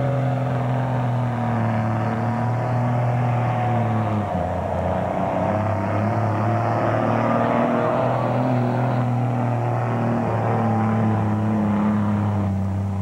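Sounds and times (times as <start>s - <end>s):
truck engine revving under load: 0.0s - 13.0s.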